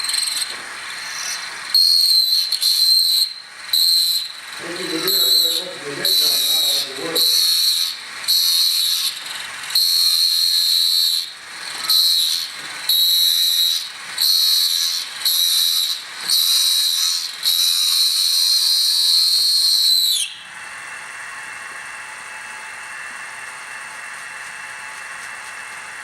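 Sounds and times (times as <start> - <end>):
electric drill motor whining: 0.0 - 26.0.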